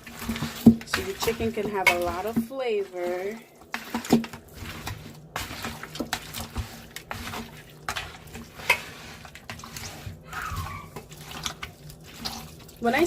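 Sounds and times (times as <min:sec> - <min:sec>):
hands squelching raw chicken: 0:00.0 - 0:13.0.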